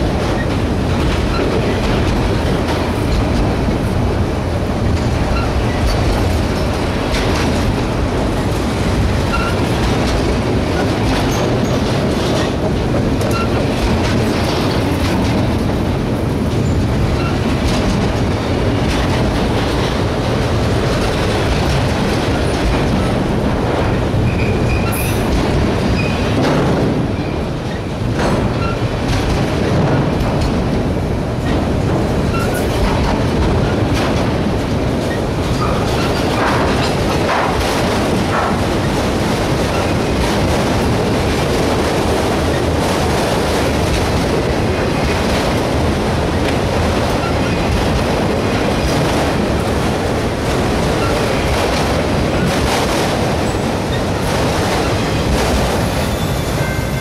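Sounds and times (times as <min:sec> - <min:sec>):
train wheels rumbling on rail: 0:00.0 - 0:57.0
clicks over rail joints: 0:04.8 - 0:55.8.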